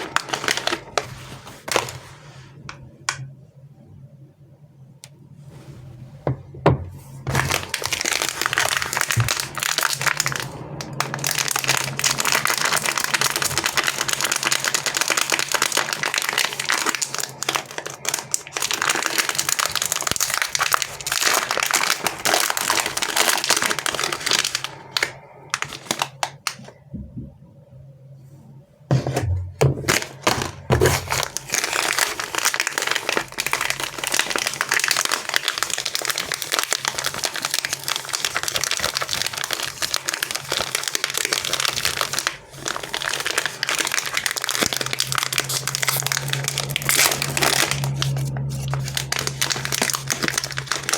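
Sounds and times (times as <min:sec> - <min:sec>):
wrappers crinkling: 0:00.0 - 0:02.6, 0:07.2 - 0:26.7, 0:29.8 - 0:50.9.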